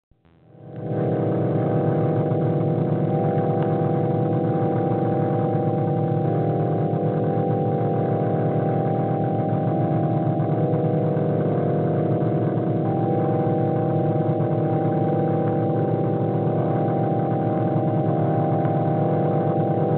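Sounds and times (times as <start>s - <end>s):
synthesizer drone: 0.3s - 19.9s.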